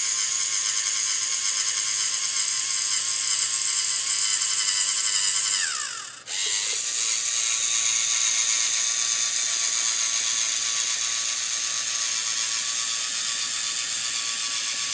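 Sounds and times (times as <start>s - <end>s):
robot motors whirring: 0.0s - 14.9s.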